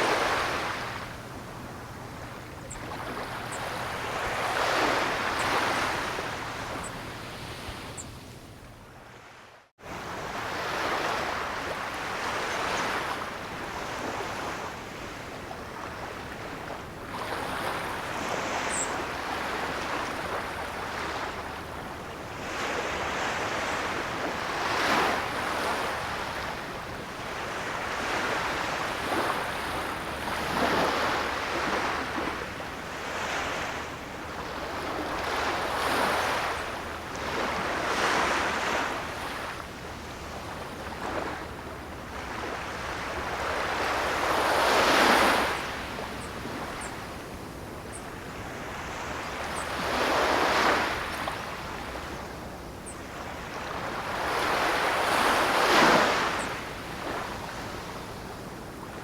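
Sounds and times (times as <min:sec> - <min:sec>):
ocean surf washing ashore: 0:00.0 - 0:08.4, 0:09.8 - 0:59.0.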